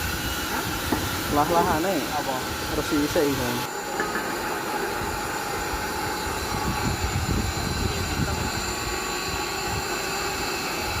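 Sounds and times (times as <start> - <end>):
machine drone humming: 0.0 - 11.0.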